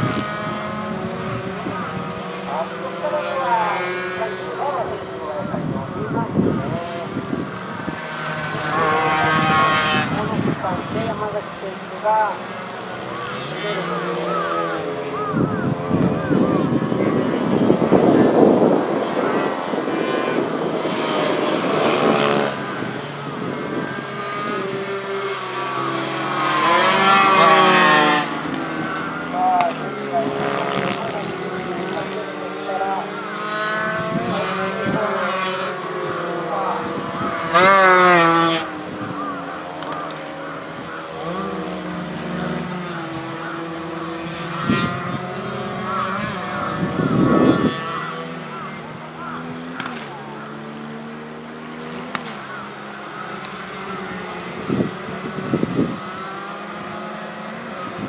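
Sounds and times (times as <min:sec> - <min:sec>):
racing motorcycle engines: 0:00.0 - 0:58.0.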